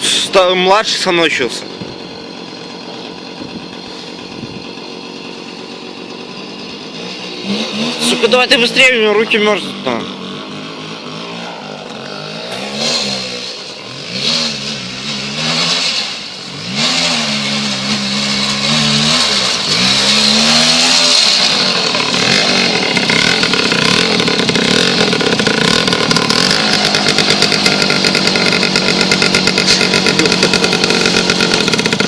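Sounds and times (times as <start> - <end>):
two-stroke motorcycle engine revving: 0.0 - 32.0.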